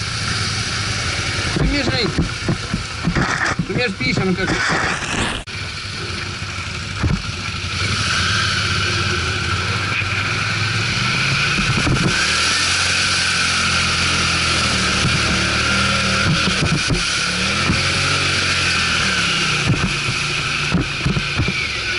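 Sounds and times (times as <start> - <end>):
atv engine running: 0.0 - 21.9.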